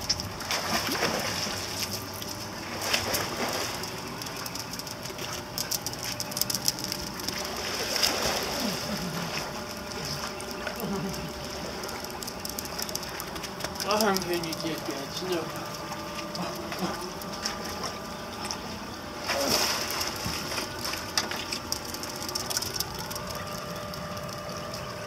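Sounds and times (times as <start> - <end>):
pool water splashing: 0.0 - 25.0
water running with steady hiss: 0.0 - 25.0.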